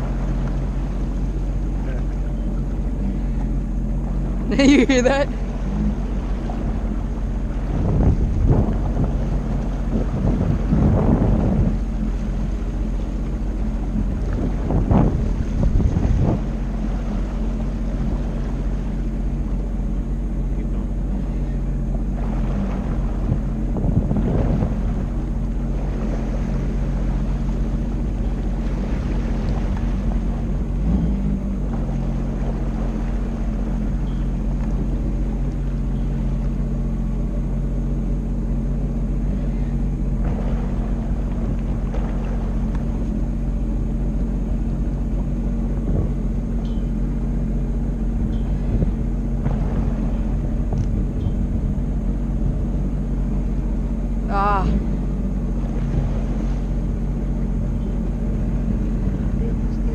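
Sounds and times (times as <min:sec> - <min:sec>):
jet ski engine running: 0:00.0 - 0:59.9.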